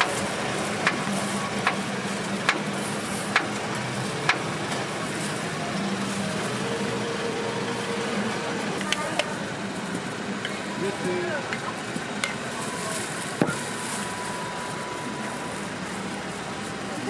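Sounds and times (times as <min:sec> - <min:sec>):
low traffic hum: 0:00.0 - 0:17.0.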